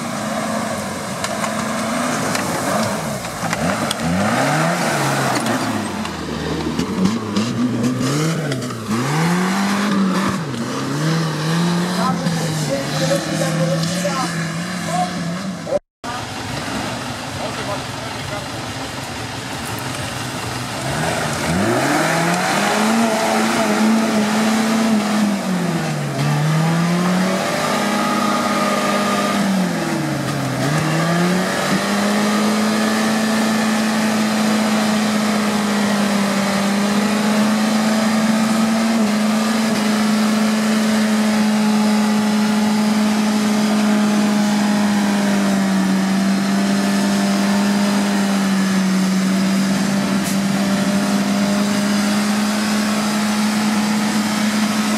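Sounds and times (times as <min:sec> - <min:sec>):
engine revving: 0:00.0 - 0:15.8, 0:19.7 - 0:54.9
vehicle churning through mud: 0:00.0 - 0:54.9.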